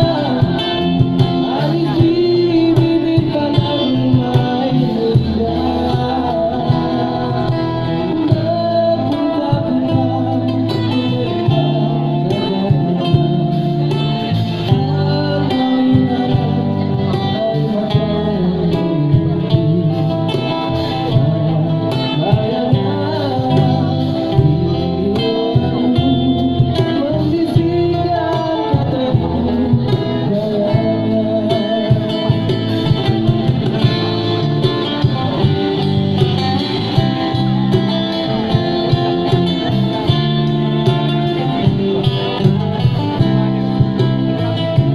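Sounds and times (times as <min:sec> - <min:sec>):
guitar: 0:00.0 - 0:44.9
man singing: 0:00.0 - 0:44.9.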